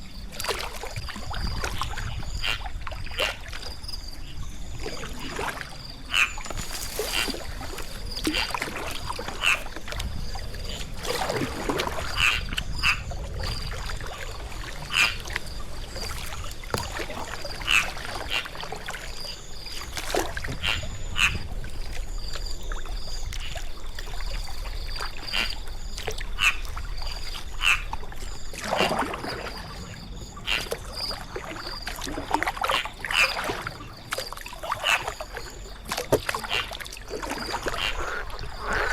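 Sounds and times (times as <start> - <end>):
kayak paddle splashing in water: 0.2 - 3.8, 4.6 - 38.9.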